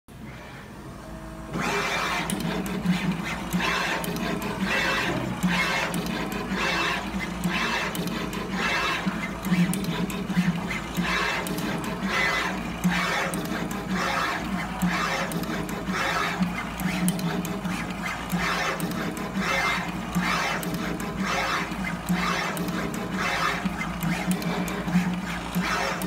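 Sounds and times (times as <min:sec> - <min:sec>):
sharp mechanical ticks: 0:01.8 - 0:26.0.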